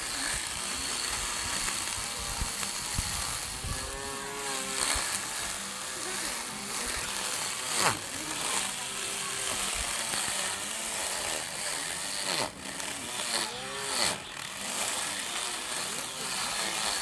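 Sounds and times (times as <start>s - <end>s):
electric grass trimmer running: 0.0s - 17.0s
trimmer line hissing through grass: 0.0s - 17.0s.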